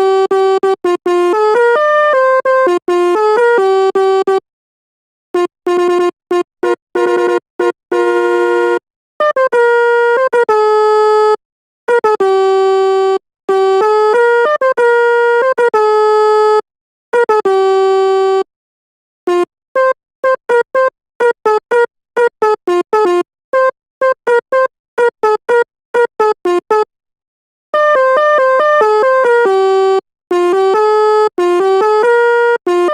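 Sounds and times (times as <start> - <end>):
musical bus horn notes: 0.0 - 4.4, 5.3 - 18.5, 19.2 - 26.9, 27.7 - 32.9.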